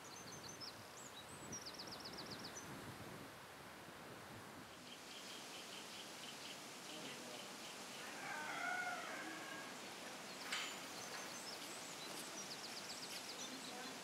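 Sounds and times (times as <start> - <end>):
small birds chirping: 0.0 - 2.8, 4.7 - 14.0.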